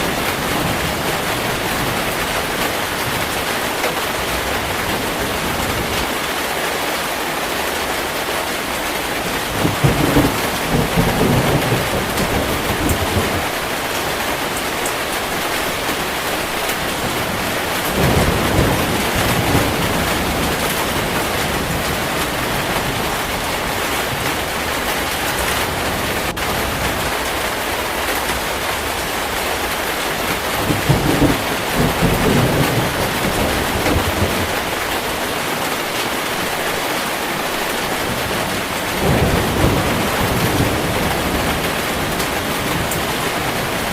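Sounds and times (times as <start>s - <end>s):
thunder rolling: 0.0s - 6.2s, 9.0s - 35.7s, 37.2s - 43.9s
heavy rain falling: 0.0s - 43.9s.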